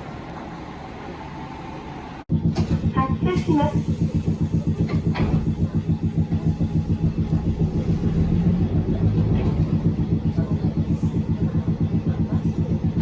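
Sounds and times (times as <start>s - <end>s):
streetcar rumbling: 0.0s - 13.0s.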